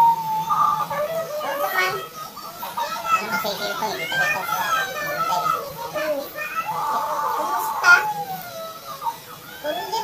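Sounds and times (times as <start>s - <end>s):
child's drawn-out voice: 0.4s - 10.0s.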